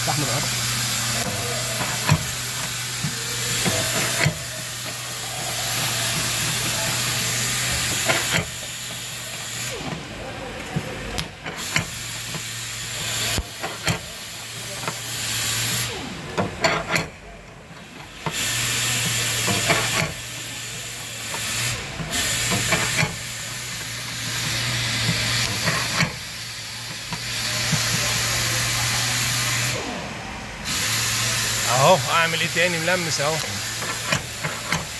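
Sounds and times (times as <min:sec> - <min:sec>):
electric welding hum and hiss: 0:00.0 - 0:17.0, 0:17.9 - 0:29.8, 0:30.6 - 0:34.9.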